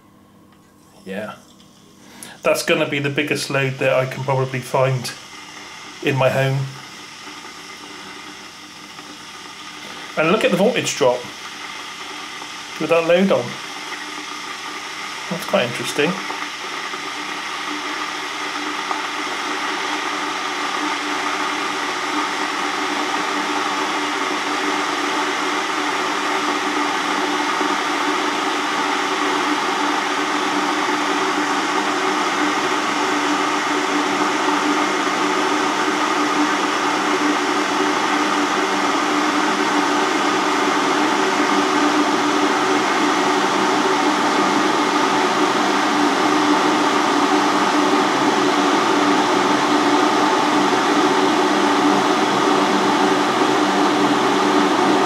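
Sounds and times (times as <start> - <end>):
electric kettle heating water: 0.0 - 55.0.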